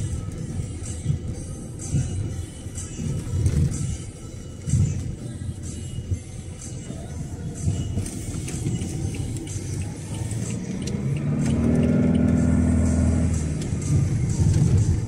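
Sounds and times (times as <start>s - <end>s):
deep engine hum: 0.0s - 15.0s
vehicle road and engine noise: 0.0s - 15.0s.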